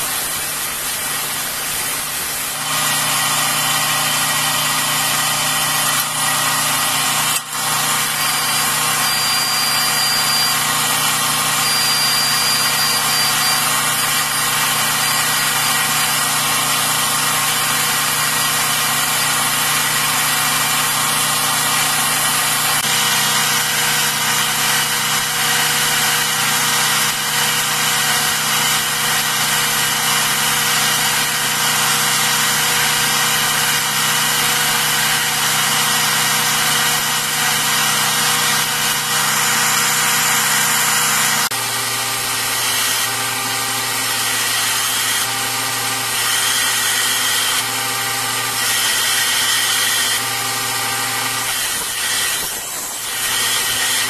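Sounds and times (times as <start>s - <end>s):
belt grinder grinding steel blade: 2.0s - 54.0s.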